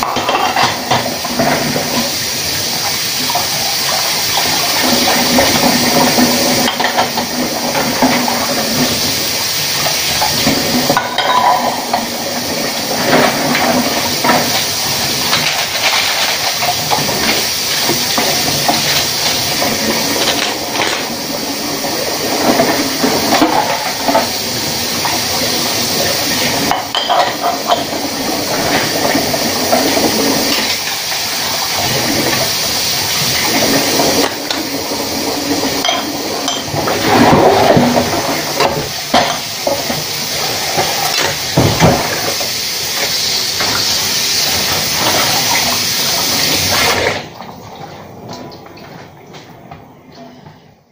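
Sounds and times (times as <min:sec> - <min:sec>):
running tap water: 0:00.0 - 0:49.8.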